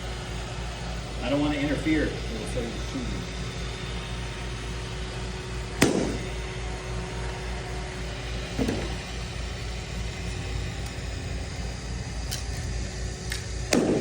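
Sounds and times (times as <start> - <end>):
robot vacuum humming: 0.0 - 13.7.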